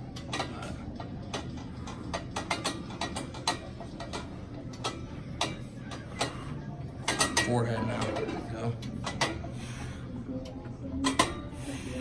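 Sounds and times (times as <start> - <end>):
cable machine clicking and clinking: 0.0 - 6.4, 7.0 - 9.4, 10.4 - 11.5
low steady hum: 0.0 - 12.0.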